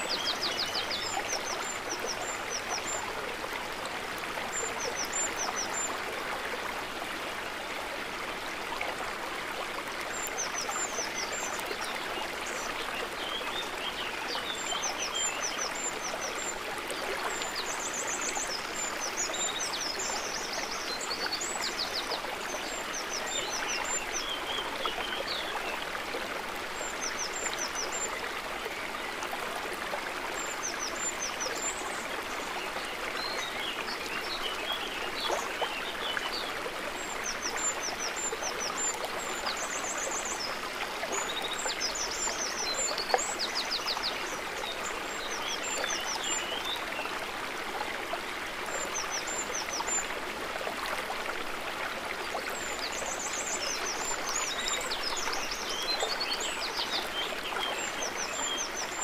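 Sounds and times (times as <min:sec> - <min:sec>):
water babbling and trickling: 0:00.0 - 0:59.0.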